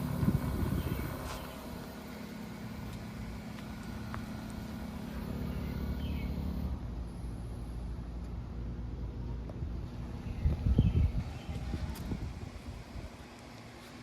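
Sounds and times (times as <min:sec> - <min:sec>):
low rumble: 0:00.0 - 0:13.3
air conditioner hum and fan: 0:00.0 - 0:14.0.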